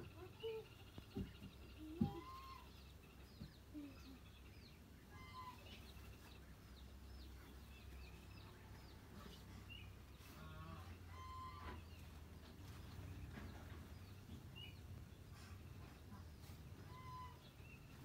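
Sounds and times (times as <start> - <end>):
lower bird calls: 0.0 - 18.0.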